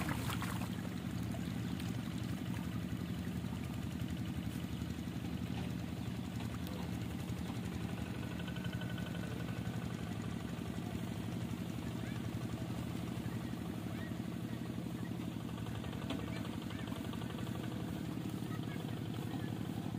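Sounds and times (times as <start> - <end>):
small engine puttering: 0.0 - 19.9.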